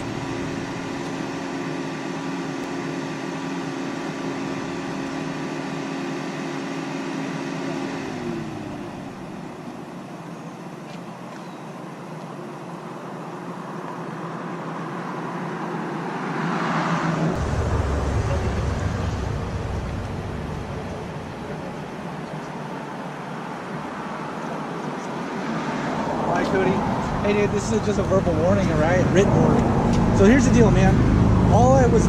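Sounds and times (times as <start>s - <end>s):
road traffic noise: 0.0s - 32.0s
vehicle engine humming: 0.0s - 32.0s.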